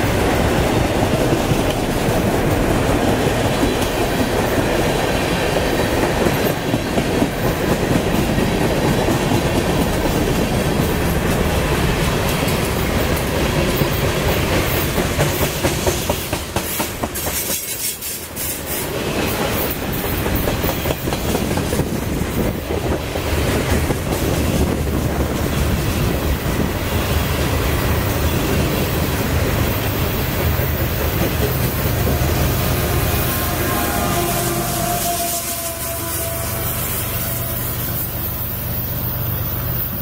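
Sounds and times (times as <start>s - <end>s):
train wheels clicking on rails: 0.0s - 33.5s
diesel locomotive engine rumble: 0.0s - 40.0s.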